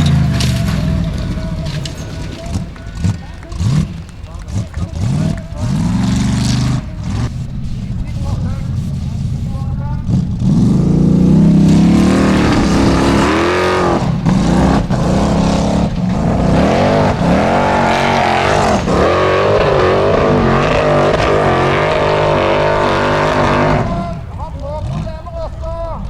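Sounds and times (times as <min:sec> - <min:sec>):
buggy engine revving: 0:00.0 - 0:26.0.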